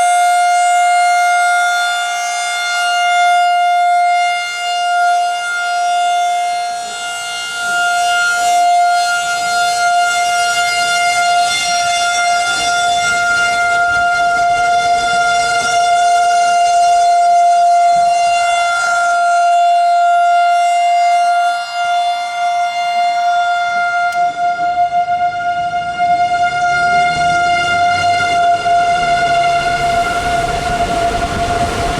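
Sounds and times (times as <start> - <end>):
warning siren steady wail: 0.0 - 31.9.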